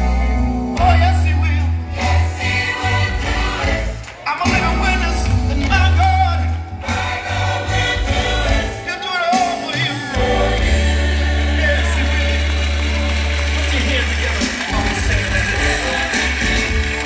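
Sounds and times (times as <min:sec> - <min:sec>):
choir singing gospel: 0:00.0 - 0:17.0.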